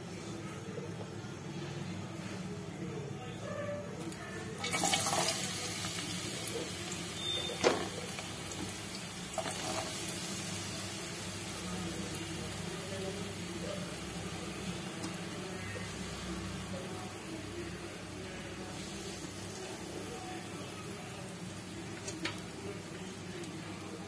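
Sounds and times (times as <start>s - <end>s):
onions sizzling in hot oil: 4.6s - 24.0s.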